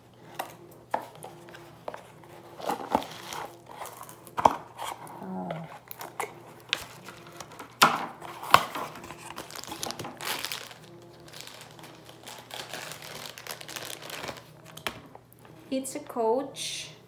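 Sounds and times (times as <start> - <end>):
plastic wrapping crinkling: 0.4 - 15.4.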